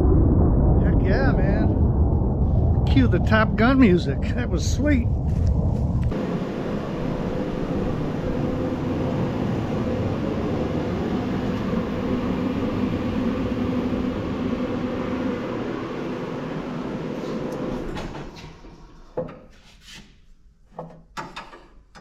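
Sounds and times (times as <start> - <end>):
jet aircraft rumble: 0.0 - 18.3.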